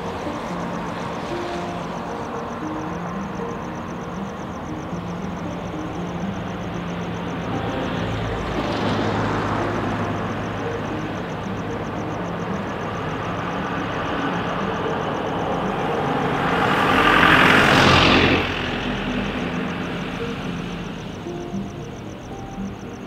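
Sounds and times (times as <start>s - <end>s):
bus passing close: 0.0s - 23.0s
night traffic: 0.0s - 23.0s.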